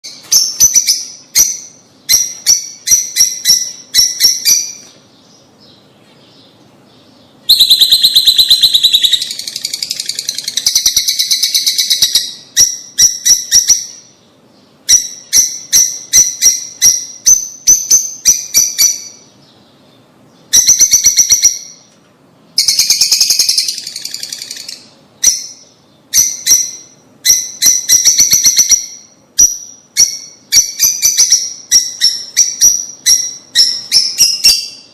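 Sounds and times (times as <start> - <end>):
birds chirping and chattering: 0.0 - 34.9.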